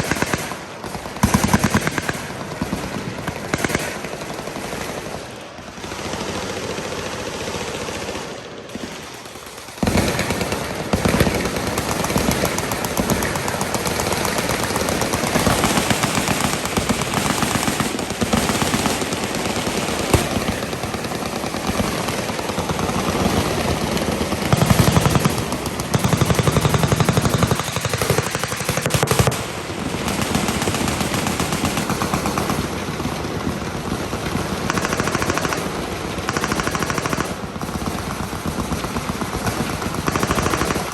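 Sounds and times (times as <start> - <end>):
automatic machine-gun fire: 0.0 - 40.9.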